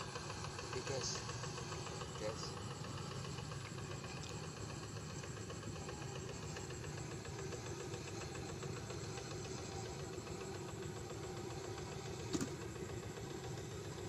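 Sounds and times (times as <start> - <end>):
engine droning steadily: 0.0 - 14.0.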